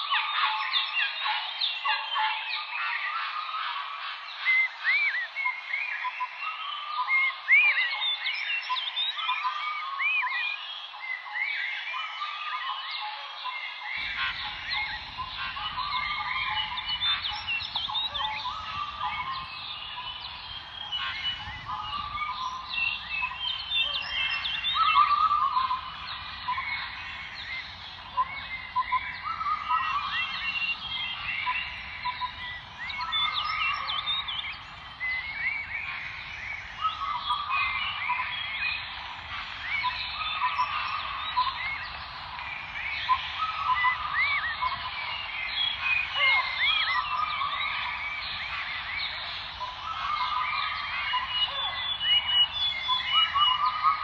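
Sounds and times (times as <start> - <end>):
chorus of animal chirps: 0.0 - 54.0.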